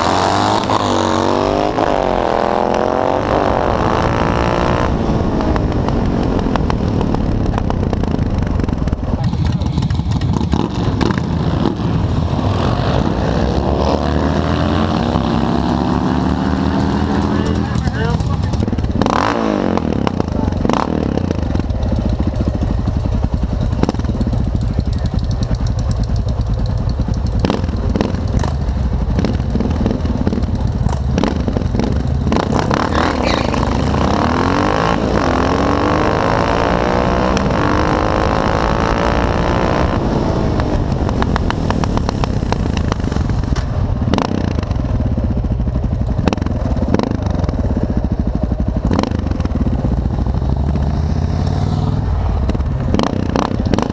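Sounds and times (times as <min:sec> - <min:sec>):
motorcycle engines rumbling: 0:00.0 - 0:53.9.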